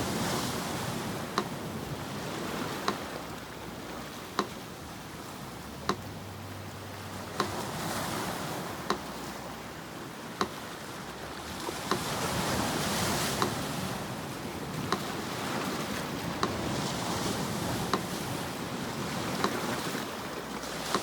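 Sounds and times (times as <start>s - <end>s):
sea surf washing: 0.0s - 21.0s
metronome ticking: 0.7s - 18.3s, 19.2s - 19.7s, 20.5s - 21.0s.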